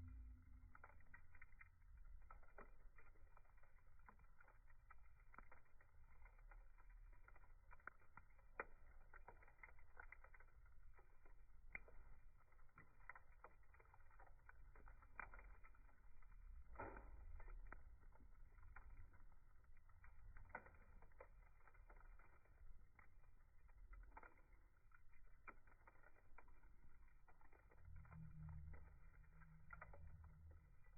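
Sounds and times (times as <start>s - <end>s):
campfire crackling and popping: 0.0s - 30.9s
fire low rumble: 0.0s - 30.9s.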